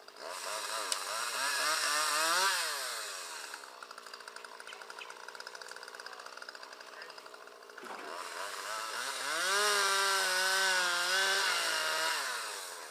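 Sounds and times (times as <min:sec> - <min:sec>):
chainsaw revving and idling: 0:00.0 - 0:12.9.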